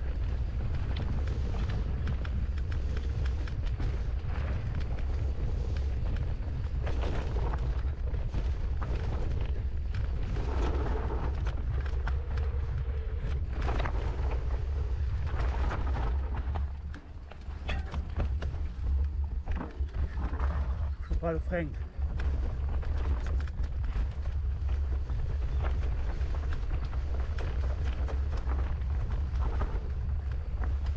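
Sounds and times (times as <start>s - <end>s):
bike rattling over rocks: 0.0s - 21.1s, 21.8s - 30.9s
wind rumble on microphone: 0.0s - 30.9s.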